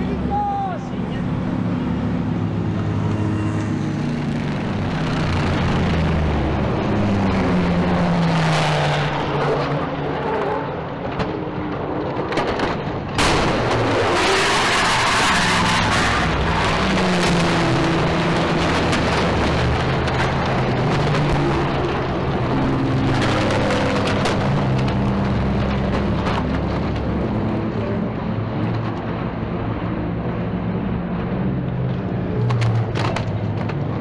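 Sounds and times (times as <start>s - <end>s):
race car engines passing: 0.0s - 34.0s
steady noisy rush: 0.0s - 34.0s.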